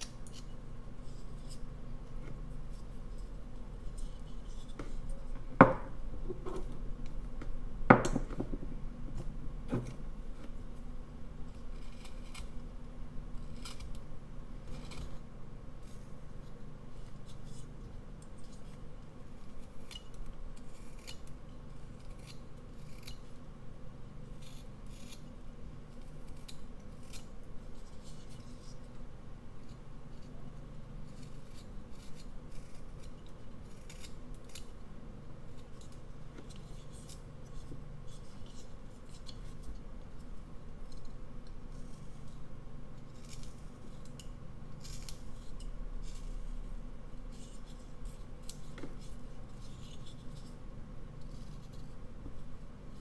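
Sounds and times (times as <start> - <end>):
knife carving wood: 0.0 - 6.8, 11.4 - 23.4, 24.2 - 29.0, 29.6 - 34.8, 35.4 - 53.0.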